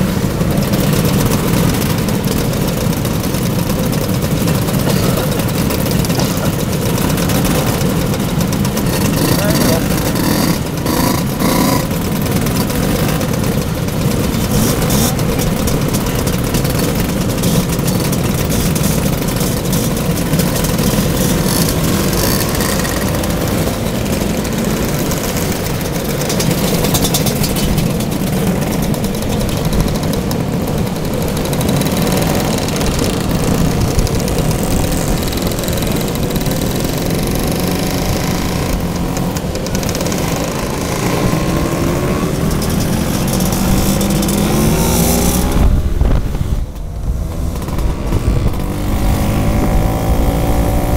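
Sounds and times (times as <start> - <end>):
many scooters idling and revving: 0.0 - 50.9.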